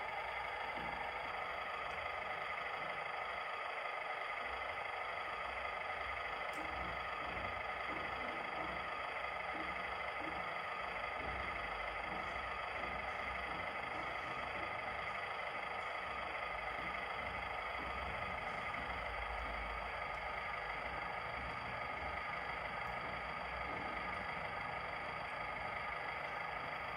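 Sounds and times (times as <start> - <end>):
electric motor whining: 4.4 - 26.9.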